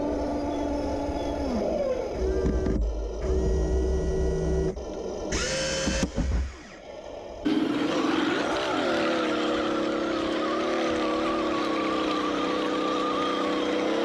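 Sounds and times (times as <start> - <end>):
electric motors and gearboxes whining: 0.0 - 14.0.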